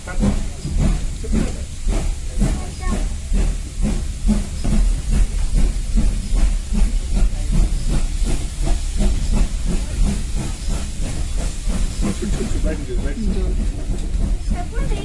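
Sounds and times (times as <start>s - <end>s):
hissing steam: 0.0s - 15.0s
steam locomotive chuffing: 0.0s - 15.0s.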